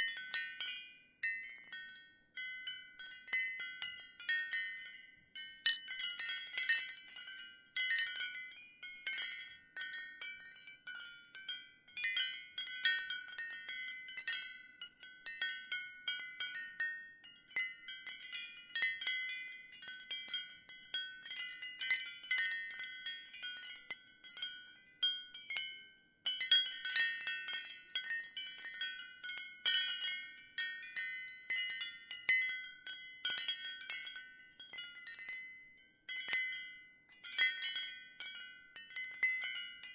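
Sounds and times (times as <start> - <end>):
wind chimes jangling: 0.0 - 39.9.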